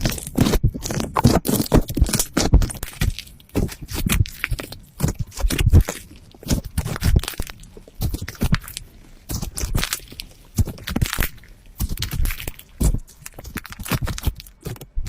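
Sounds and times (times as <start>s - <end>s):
slime crackling and popping: 0.0s - 15.0s.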